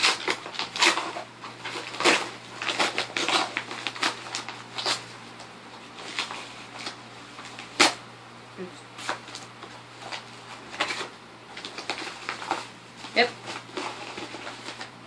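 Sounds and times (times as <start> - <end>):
paper envelope being torn open: 0.0 - 5.1, 6.0 - 8.0, 9.0 - 14.9.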